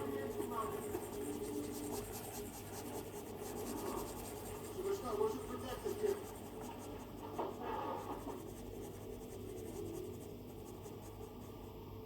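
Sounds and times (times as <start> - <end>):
stylus scratching on screen: 0.0 - 11.8.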